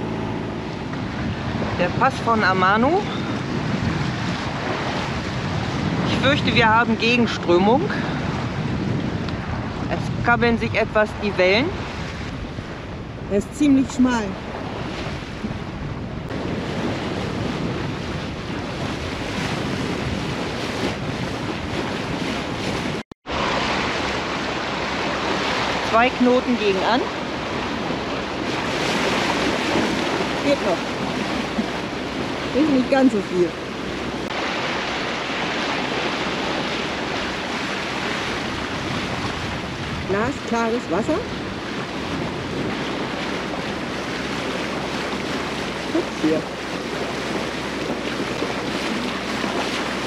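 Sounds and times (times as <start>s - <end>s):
choppy sea: 0.0s - 50.0s
wind buffeting microphone: 0.0s - 50.0s.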